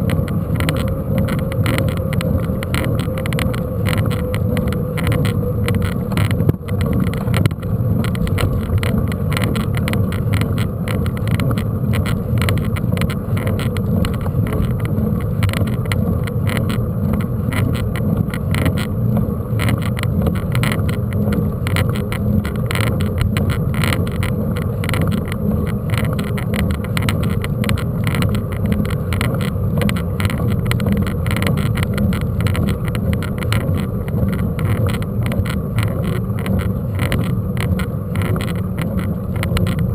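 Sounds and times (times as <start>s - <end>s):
bike rattling and clicking: 0.0s - 39.9s.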